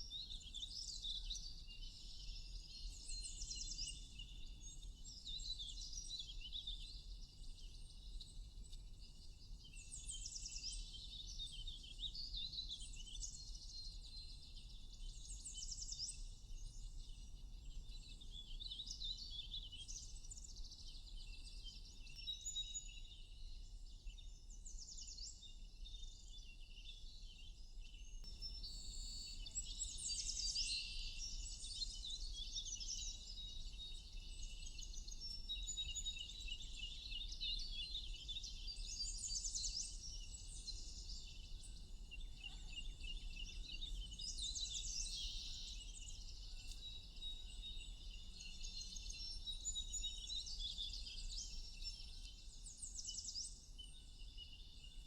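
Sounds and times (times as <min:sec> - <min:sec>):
songbirds chirping and trilling: 0:00.2 - 0:55.0.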